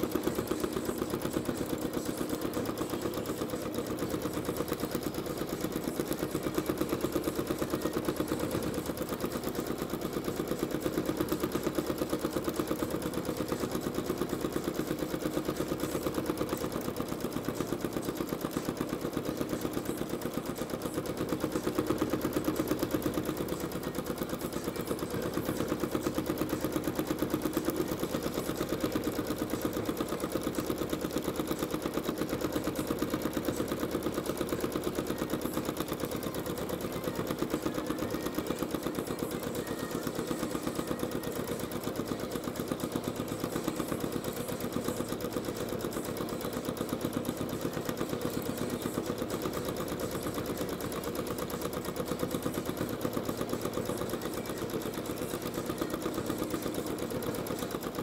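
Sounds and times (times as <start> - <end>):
sewing machine stitching: 0.0 - 58.0.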